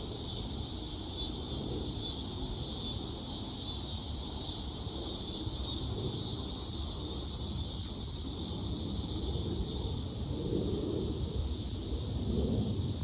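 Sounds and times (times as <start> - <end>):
wind rumble on microphone: 0.0 - 13.0
insect chorus buzzing: 0.1 - 12.2.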